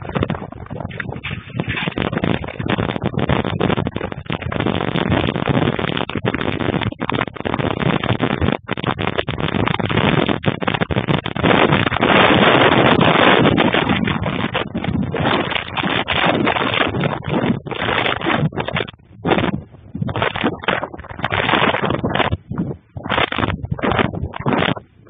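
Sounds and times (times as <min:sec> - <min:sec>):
strong wind blasting microphone: 0:00.0 - 0:25.0.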